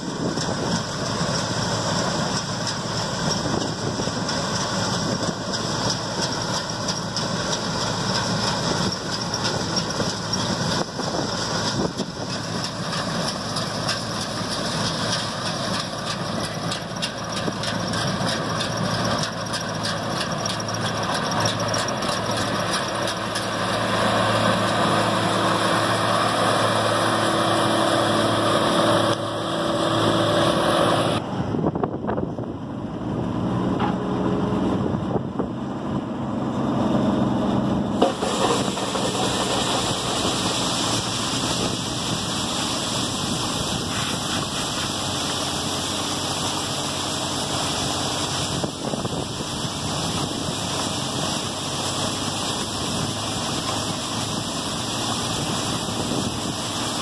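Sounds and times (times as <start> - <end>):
combine harvester drone: 0.0 - 57.0.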